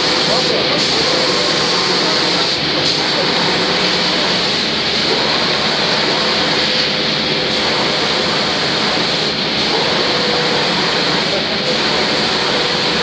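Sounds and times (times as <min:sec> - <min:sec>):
spraying machine rushing: 0:00.0 - 0:13.0.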